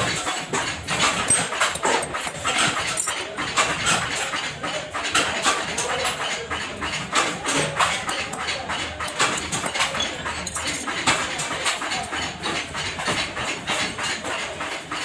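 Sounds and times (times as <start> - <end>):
sharp metallic clicks and knocks: 0.0 - 15.0.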